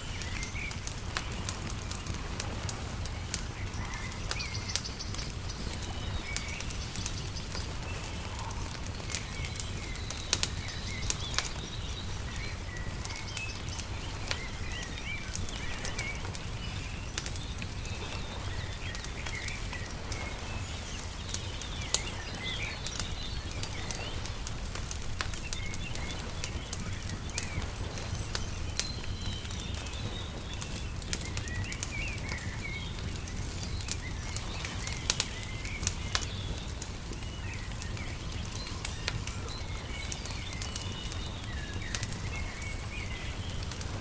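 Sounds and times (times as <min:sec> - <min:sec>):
small birds chirping: 0:00.0 - 0:44.0
wood fire crackling and popping: 0:00.0 - 0:44.0.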